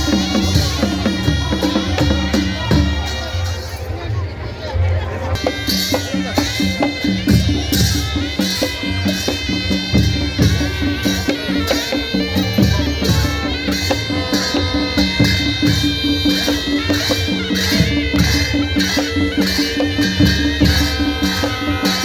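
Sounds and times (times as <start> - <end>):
loud music with drum beat: 0.0 - 3.9, 5.3 - 22.0.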